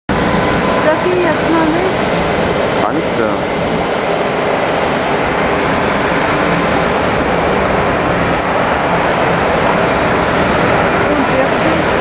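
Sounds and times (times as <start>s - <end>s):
faint high whine: 0.1s - 12.0s
jet engines roaring: 0.1s - 12.0s.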